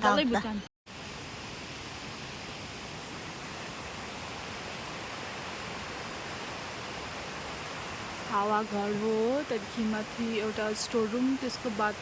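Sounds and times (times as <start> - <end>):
river rushing: 0.9 - 12.0.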